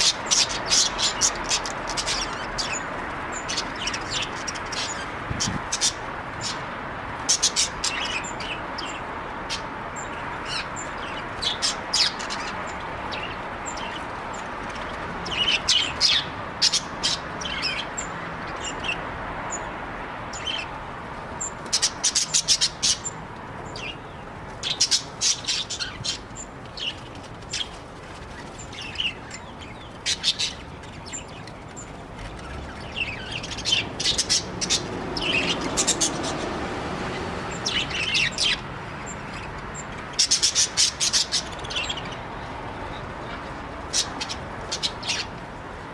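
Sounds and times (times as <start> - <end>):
budgies chirping: 0.0 - 20.8, 21.4 - 45.8.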